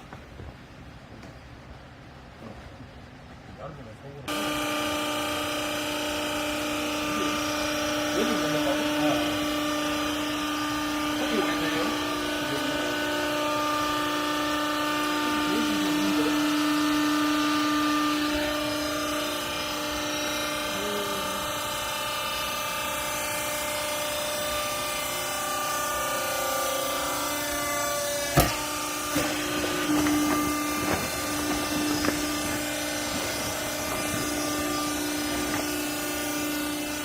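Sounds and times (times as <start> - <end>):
baler machine whine: 1.2 - 37.0.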